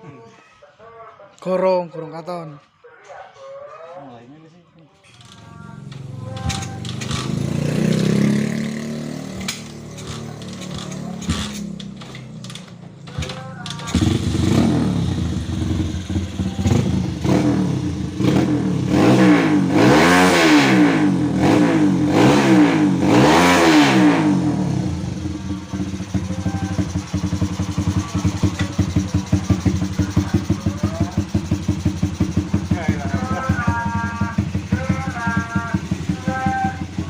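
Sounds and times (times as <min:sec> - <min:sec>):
motorcycle engine revving and idling: 0:05.2 - 0:37.0.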